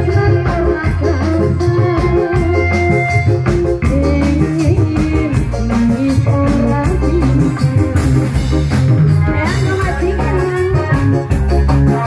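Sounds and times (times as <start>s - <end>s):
dangdut music over sound system: 0.0s - 12.0s
woman singing into a microphone: 0.0s - 12.0s.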